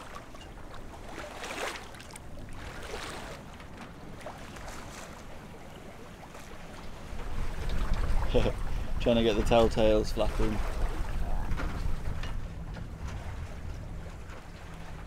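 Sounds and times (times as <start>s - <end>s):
water splashing along hulls: 0.0s - 15.0s
wind rumble on microphone: 2.2s - 15.0s.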